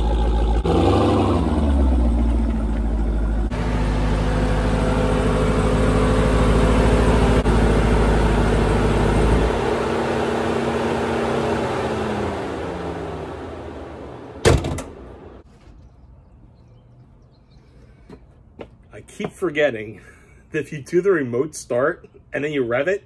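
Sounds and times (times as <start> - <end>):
engine burbling: 0.0 - 20.9.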